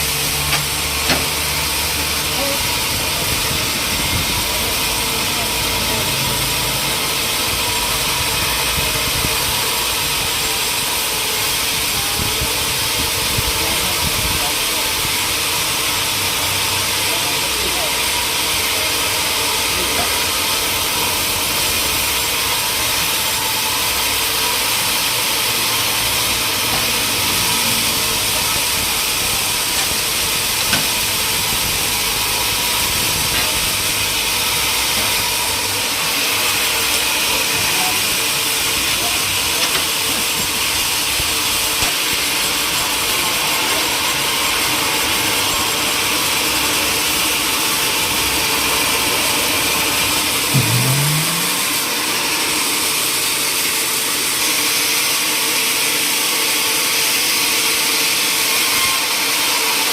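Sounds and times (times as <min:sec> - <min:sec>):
machinery hissing: 0:00.0 - 0:46.0, 0:49.9 - 0:53.2.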